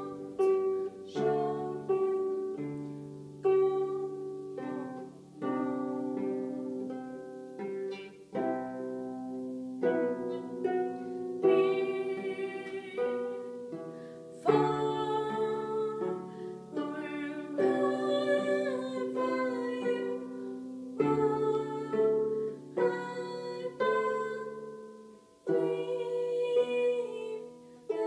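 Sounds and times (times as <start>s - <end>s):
woman singing: 0.0s - 2.8s, 3.4s - 7.0s, 9.8s - 28.0s
harp playing: 0.0s - 28.0s.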